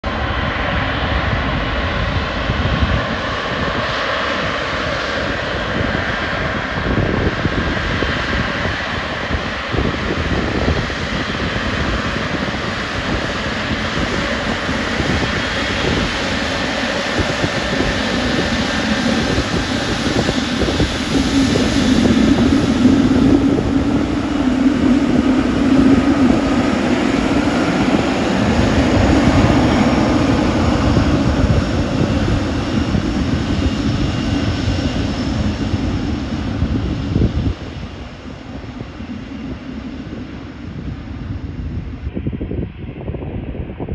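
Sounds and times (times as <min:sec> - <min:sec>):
jet engine whine and rumble: 0:00.0 - 0:43.9.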